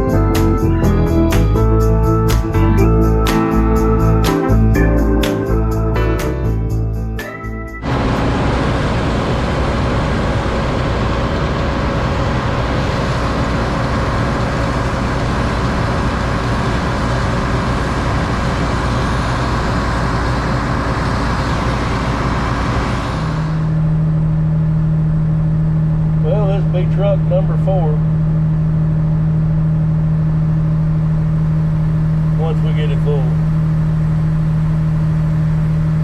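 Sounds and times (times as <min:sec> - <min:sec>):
low engine drone: 0:00.0 - 0:36.0
steady low hum: 0:00.0 - 0:36.0.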